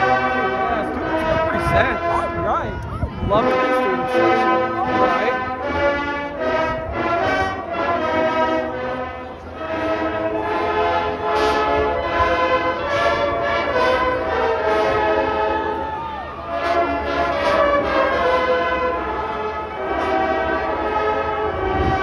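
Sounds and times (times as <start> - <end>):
brass band playing chords: 0.0 - 22.0.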